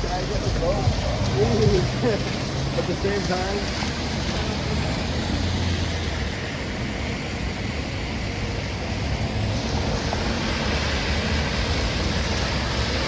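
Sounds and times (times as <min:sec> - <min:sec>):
wind and rain rushing: 0:00.0 - 0:13.0.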